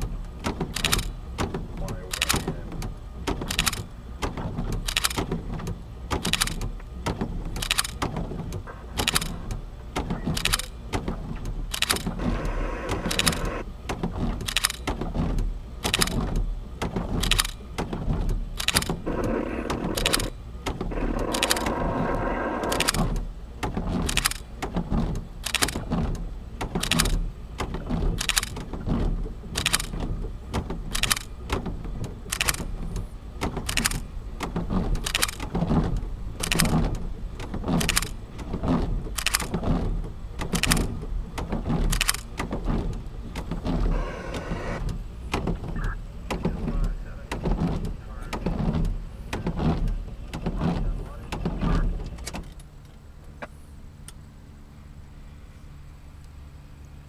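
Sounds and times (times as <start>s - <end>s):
windshield wipers sweeping: 0.0s - 53.5s
low hum of vehicle: 0.0s - 57.0s
rain: 2.2s - 50.0s.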